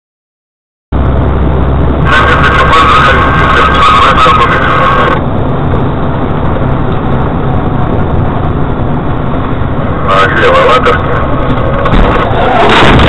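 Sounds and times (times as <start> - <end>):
car road and engine rumble: 0.9 - 13.0.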